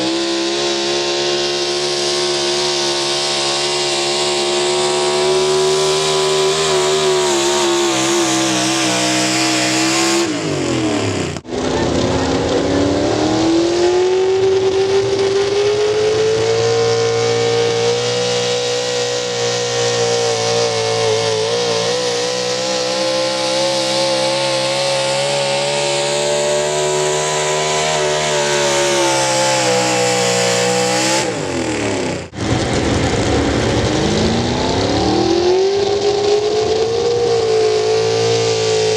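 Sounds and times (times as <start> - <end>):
pulling vehicle engine revving: 0.0 - 38.9.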